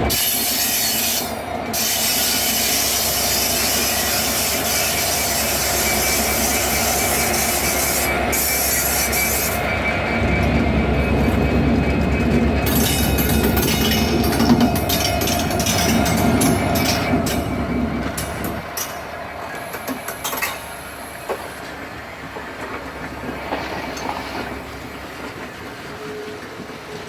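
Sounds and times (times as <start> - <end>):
freight train on track: 0.0 - 27.0.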